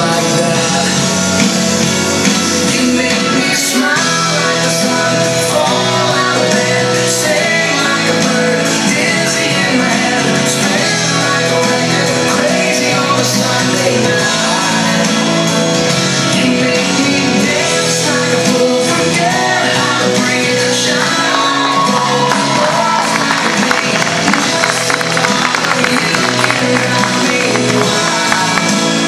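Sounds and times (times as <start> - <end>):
music with singing: 0.0 - 29.0.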